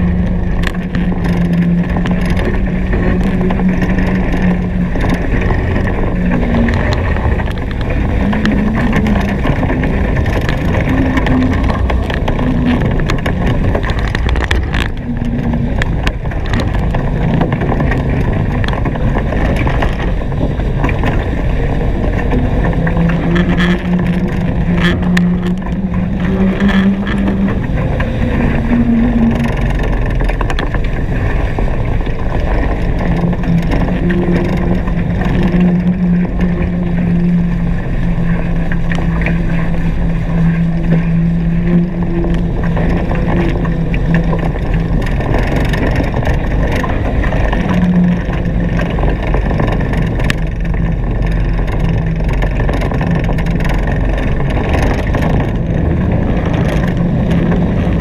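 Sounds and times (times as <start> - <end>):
low hum: 0.0 - 58.0
water and wind rushing: 0.0 - 58.0.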